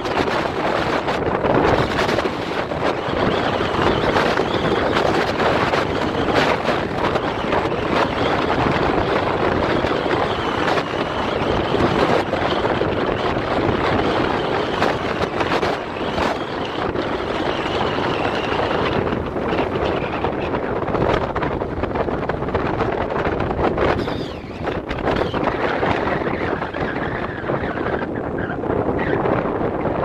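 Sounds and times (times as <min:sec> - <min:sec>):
tire and wind noise on road: 0:00.0 - 0:30.0
wind buffeting microphone: 0:00.0 - 0:30.0.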